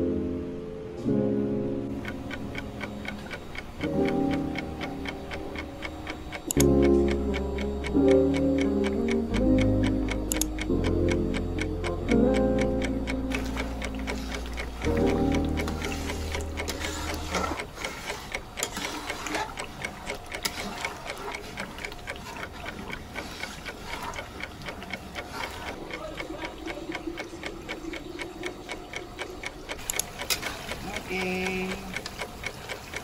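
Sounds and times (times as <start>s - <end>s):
quick even ticking: 1.9s - 33.0s.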